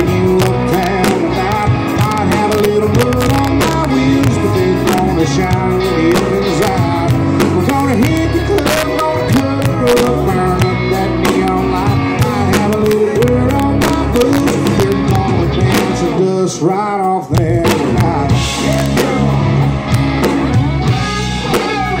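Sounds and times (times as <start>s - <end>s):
bass guitar: 0.0s - 22.0s
drum kit: 0.0s - 22.0s
electric guitars: 0.0s - 22.0s.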